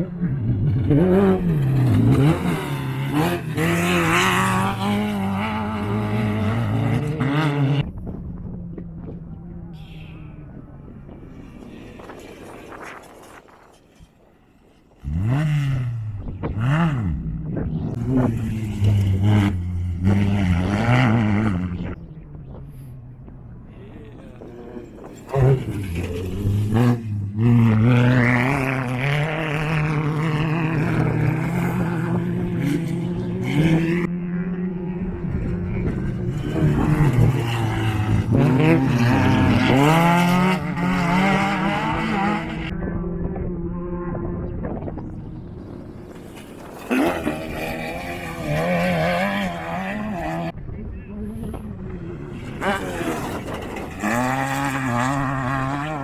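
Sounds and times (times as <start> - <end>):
race vehicle engine revving: 0.0 - 8.0, 15.0 - 22.9, 23.7 - 56.0.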